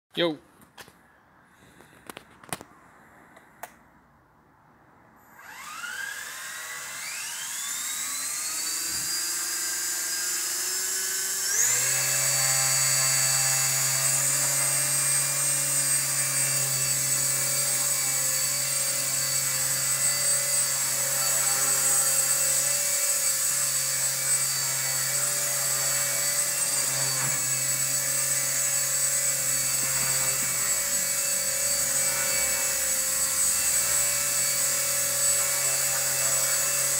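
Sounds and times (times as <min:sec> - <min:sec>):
rc helicopter motor whine: 0:05.3 - 0:36.9.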